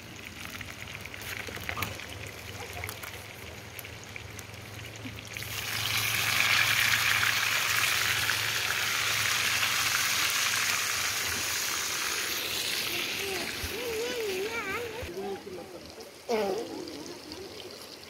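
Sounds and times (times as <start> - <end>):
fish sizzling in hot oil: 0.0 - 15.1.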